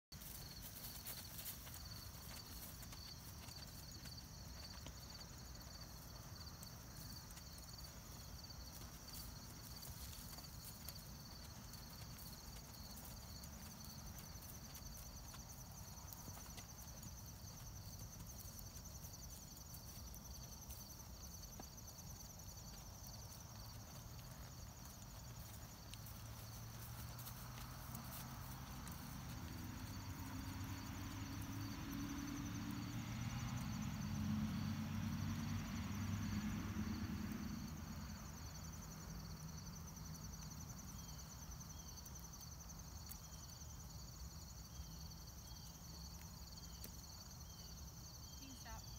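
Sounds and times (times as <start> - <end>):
soft hoofbeats on grass: 0.1 - 48.9.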